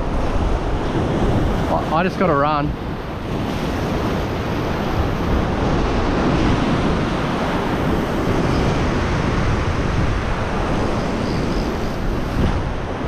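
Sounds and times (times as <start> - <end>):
ocean surf washing over rocks: 0.0 - 13.0
wind rumbling on microphone: 0.0 - 13.0.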